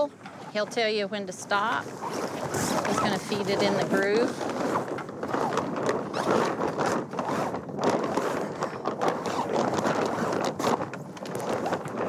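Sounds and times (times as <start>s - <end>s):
halyard rope hauled: 0.0s - 12.0s
rope and sail cloth rustling: 0.0s - 12.0s.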